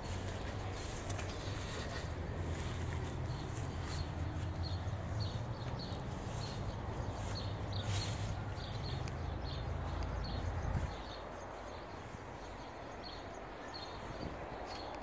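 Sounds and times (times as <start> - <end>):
bird chirping: 1.0 - 15.0.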